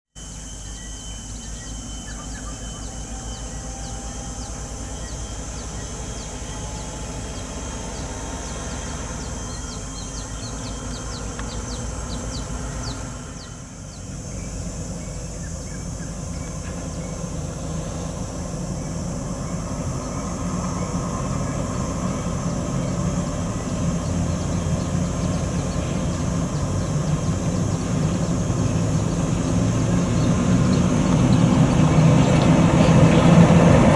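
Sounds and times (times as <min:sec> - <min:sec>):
truck diesel engine running: 0:00.2 - 0:33.9.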